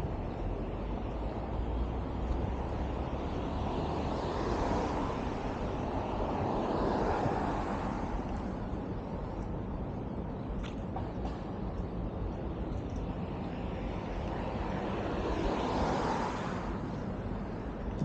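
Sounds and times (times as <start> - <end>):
city traffic noise: 0.0 - 18.0
vehicles passing: 0.0 - 18.0.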